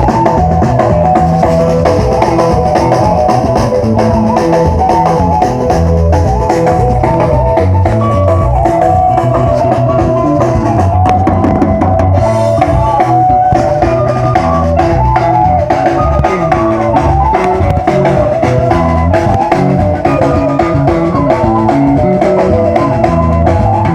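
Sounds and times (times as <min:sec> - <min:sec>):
bass notes: 0:00.0 - 0:23.9
drum kit playing: 0:00.0 - 0:23.9
melodic lead line: 0:00.0 - 0:23.9.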